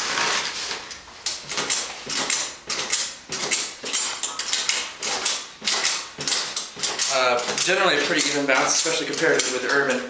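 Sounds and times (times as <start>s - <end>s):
trampoline springs creaking and jangling: 1.2s - 9.9s.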